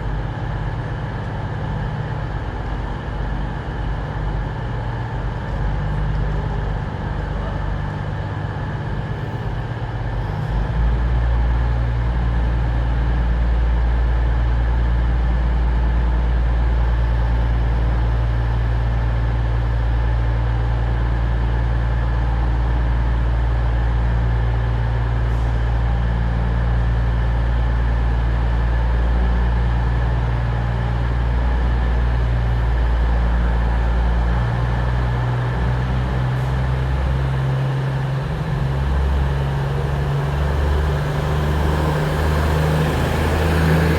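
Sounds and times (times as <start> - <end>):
train diesel engines humming: 0.0 - 43.9.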